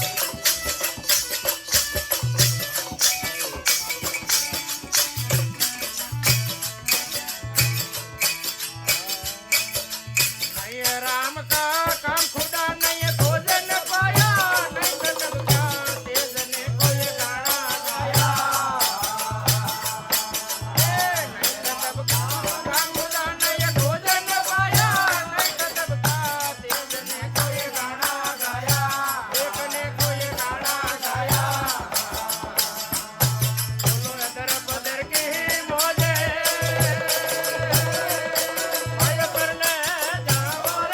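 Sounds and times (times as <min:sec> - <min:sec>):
rattling percussion beat: 0:00.0 - 0:40.9.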